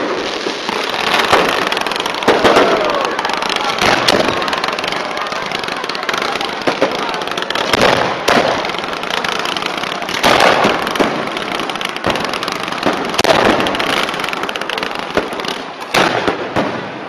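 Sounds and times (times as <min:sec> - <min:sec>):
fireworks bangs: 0:00.0 - 0:17.0
fireworks crackling: 0:00.0 - 0:17.0
rockets launching: 0:00.0 - 0:17.0.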